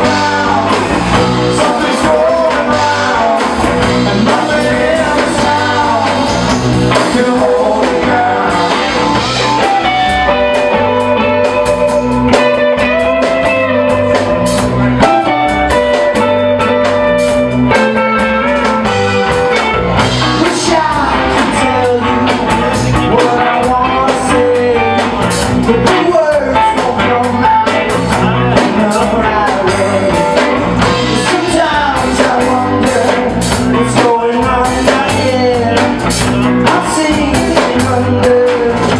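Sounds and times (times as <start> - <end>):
person singing: 0.0 - 17.0, 17.8 - 38.9
drums: 0.0 - 38.9
electric guitar: 0.0 - 38.9
live band playing blues rock: 0.0 - 38.9.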